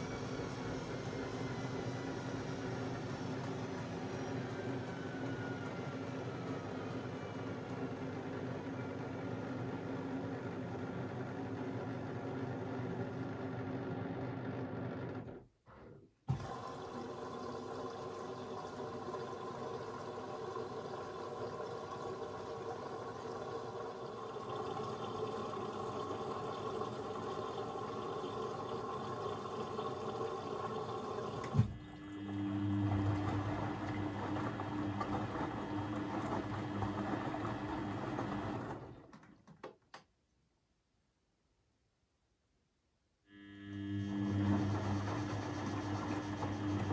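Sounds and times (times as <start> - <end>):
washing machine water rushing: 0.0 - 15.4, 16.3 - 39.4, 43.8 - 46.9.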